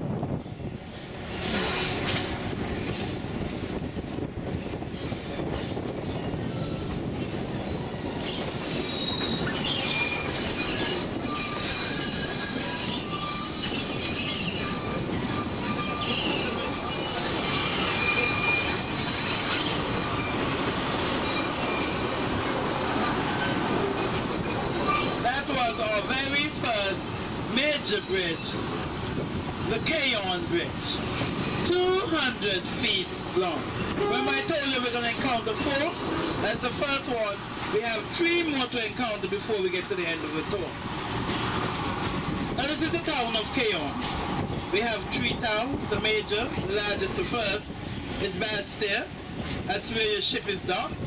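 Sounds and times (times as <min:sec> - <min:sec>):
train rumbling: 0:00.0 - 0:51.0
train wheels squealing on rails: 0:00.0 - 0:51.0.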